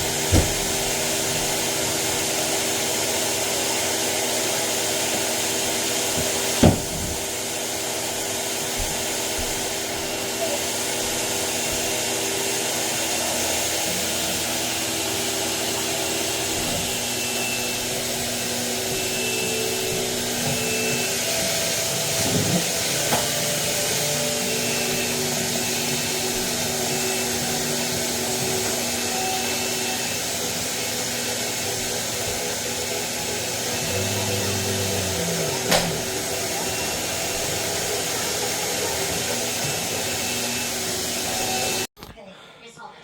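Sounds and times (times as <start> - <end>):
vacuum cleaner motor humming: 0.0 - 41.9.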